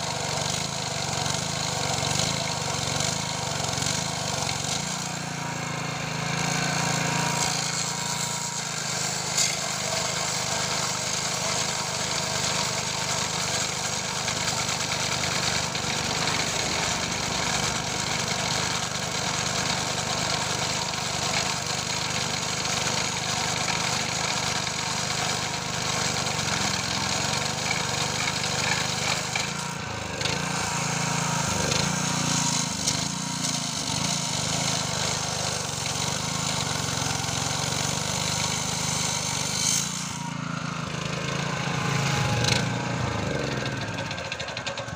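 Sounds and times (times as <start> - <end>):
small petrol engine running: 0.0 - 44.9
disc grinding through steel: 2.3 - 44.9.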